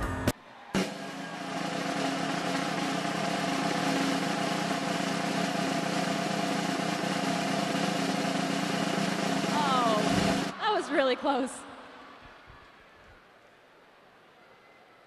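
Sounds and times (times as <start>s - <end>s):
arena crowd noise: 0.3s - 15.0s.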